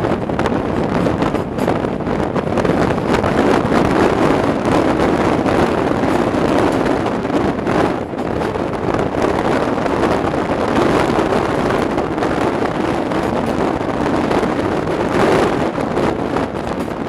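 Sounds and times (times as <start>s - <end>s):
train rumbling along track: 0.0s - 17.0s
wind buffeting microphone: 0.0s - 17.0s.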